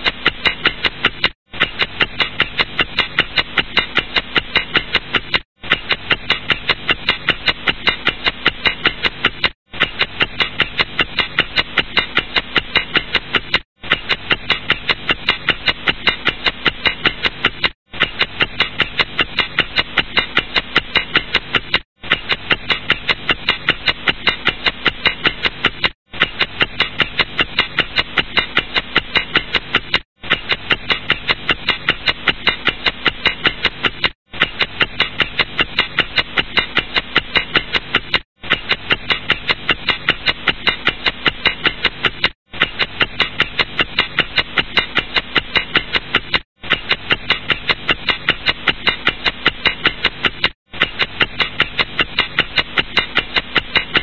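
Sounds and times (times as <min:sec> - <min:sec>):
clock ticking fast: 0:00.0 - 0:54.0.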